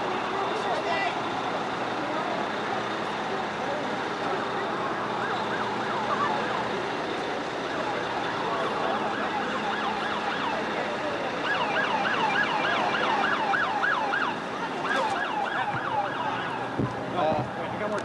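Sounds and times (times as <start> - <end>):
sirens yelping: 0.0 - 17.6
street noise: 0.0 - 18.0.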